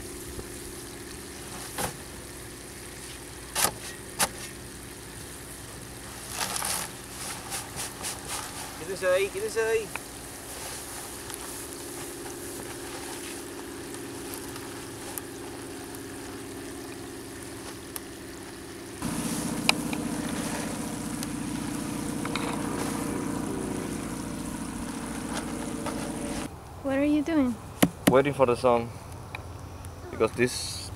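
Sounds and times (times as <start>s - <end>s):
engine idling: 0.0s - 26.5s.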